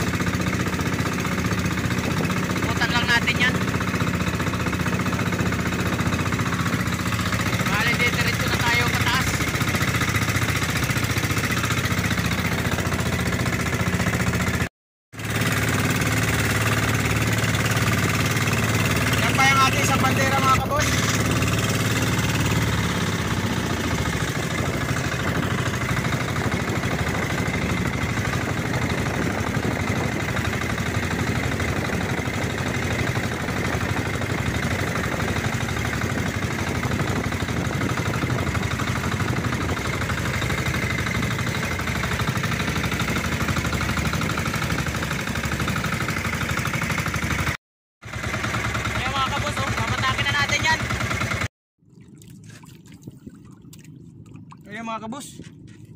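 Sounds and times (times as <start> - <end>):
water rushing along hull: 0.0 - 47.5, 48.4 - 55.9
boat engine running: 0.0 - 55.9.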